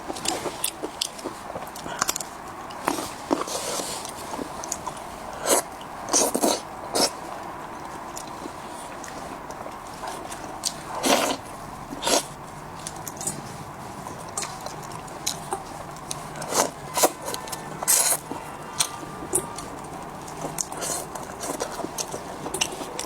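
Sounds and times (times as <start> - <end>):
chewing and mouth clicks: 0.0 - 23.0.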